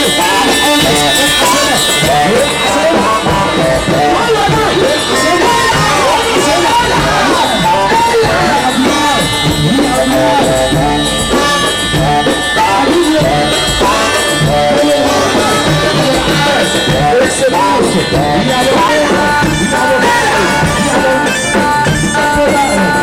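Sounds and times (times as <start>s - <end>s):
drums and percussion: 0.0s - 23.0s
pop song with ornamented melody: 0.0s - 23.0s.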